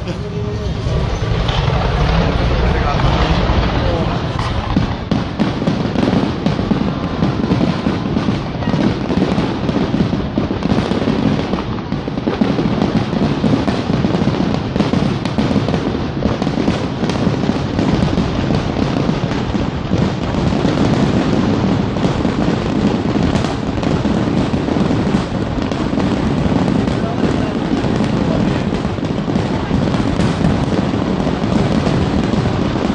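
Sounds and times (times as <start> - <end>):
fireworks bursting and crackling: 0.0 - 32.9.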